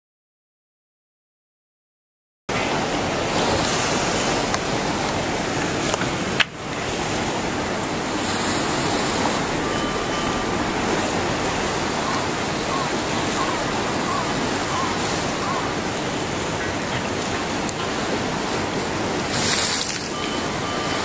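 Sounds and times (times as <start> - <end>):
floodwater roaring and surging: 2.5 - 21.0.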